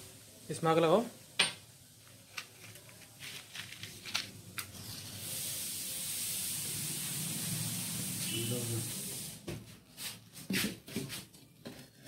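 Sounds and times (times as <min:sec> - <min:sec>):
steady burner hiss: 0:00.0 - 0:10.8.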